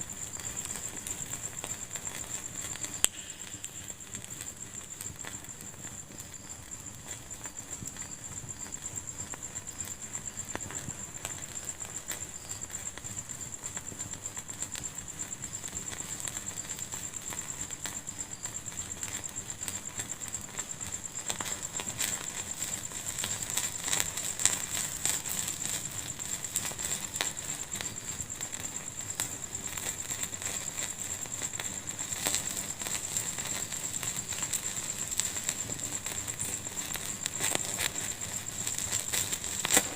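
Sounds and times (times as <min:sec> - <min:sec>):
thin high-pitched hiss: 0:00.0 - 0:39.9
wood fire crackling: 0:00.0 - 0:39.9.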